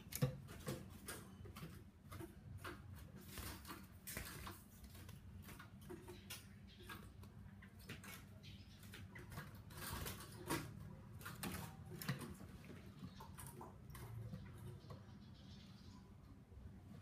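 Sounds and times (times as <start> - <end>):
bird feet tapping on cage perches: 0.0 - 15.0.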